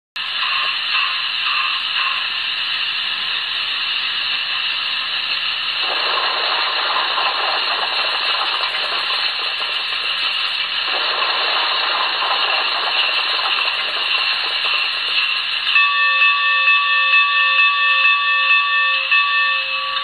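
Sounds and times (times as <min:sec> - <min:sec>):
deeper steam hiss: 0:00.2 - 0:16.7
steam hiss: 0:00.2 - 0:20.0.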